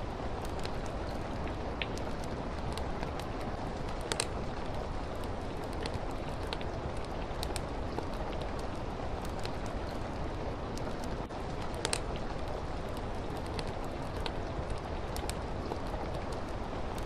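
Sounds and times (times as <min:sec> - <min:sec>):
rain hiss: 0:00.0 - 0:17.0
wood fire crackling: 0:00.0 - 0:17.0.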